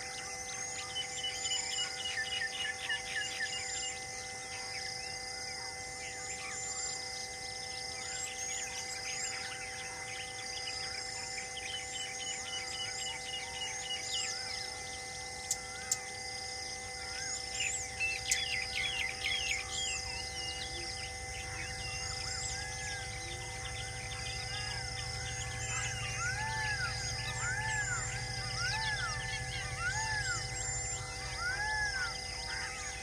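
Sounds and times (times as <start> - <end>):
birds chirping and trilling: 0.0 - 33.0
insect drone: 0.0 - 33.0.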